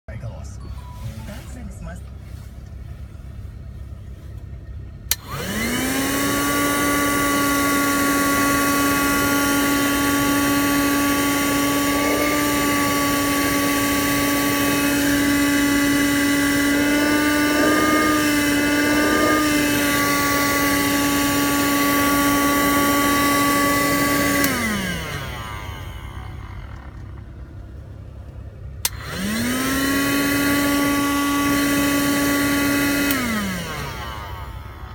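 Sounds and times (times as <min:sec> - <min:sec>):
vacuum cleaner motor whine: 0:00.5 - 0:34.9
vacuum cleaner switch click: 0:05.1 - 0:27.1, 0:28.8 - 0:34.9.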